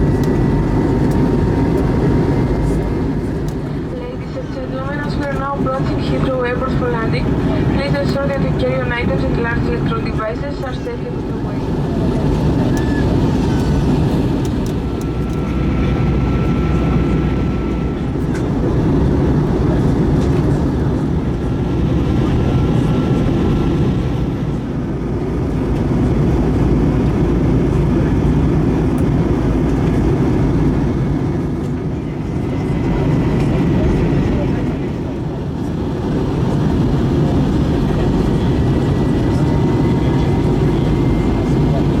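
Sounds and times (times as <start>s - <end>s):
airplane cabin engine rush: 0.0s - 42.0s.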